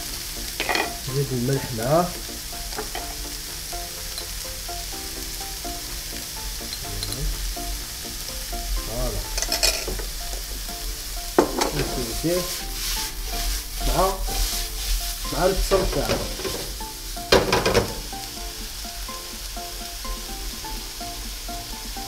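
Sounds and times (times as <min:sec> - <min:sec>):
chicken sizzling in hot oil: 0:00.0 - 0:22.0
frying pan scraping and clattering: 0:00.4 - 0:04.9, 0:06.2 - 0:21.0.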